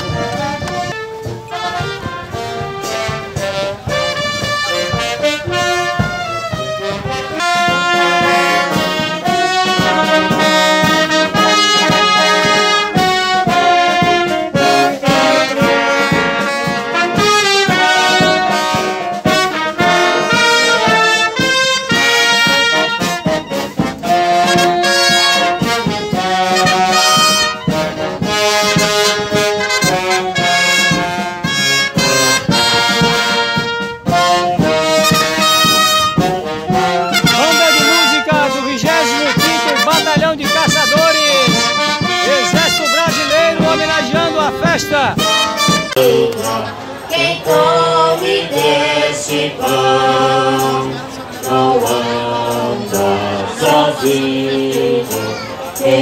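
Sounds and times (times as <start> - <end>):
military wind band playing: 0.0 - 56.0.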